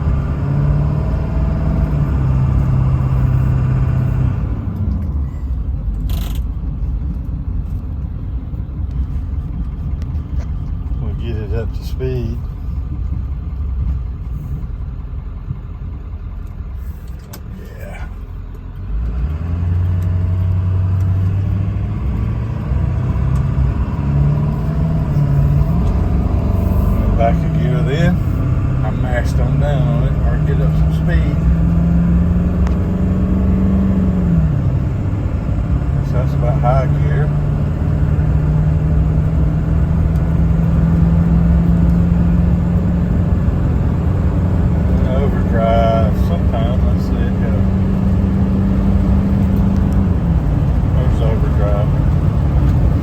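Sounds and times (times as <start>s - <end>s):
diesel engine accelerating: 0.0s - 53.0s
road and tyre noise: 0.0s - 53.0s.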